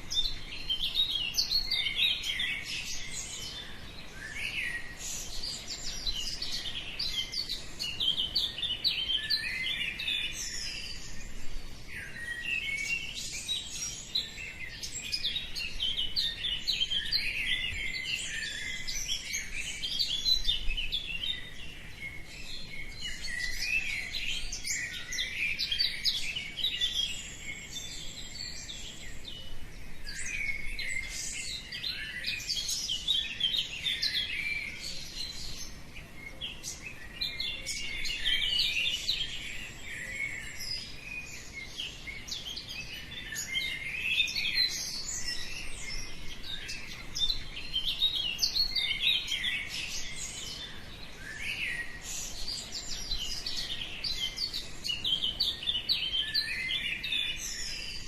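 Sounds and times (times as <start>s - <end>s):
birds singing and chirping: 0.0s - 58.0s.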